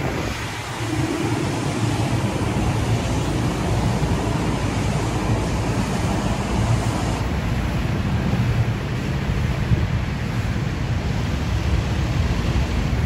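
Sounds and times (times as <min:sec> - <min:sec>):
city street traffic: 0:00.0 - 0:13.0
wind rumbling on microphone: 0:00.0 - 0:13.0.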